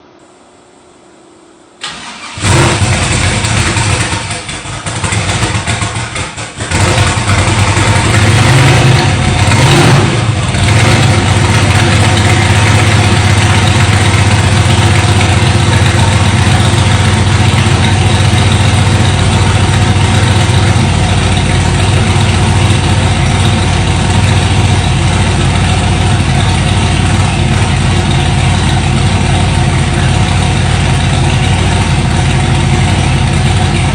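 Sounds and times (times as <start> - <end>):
car engine cranking and idling: 1.8 - 33.9.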